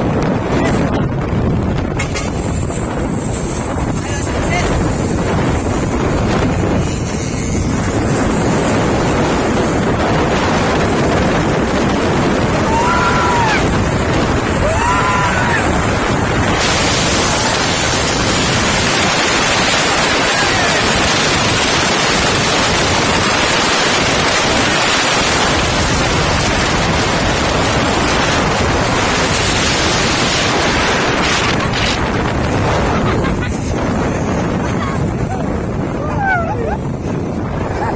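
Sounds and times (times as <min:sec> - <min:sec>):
wind on microphone: 0:00.0 - 0:37.9.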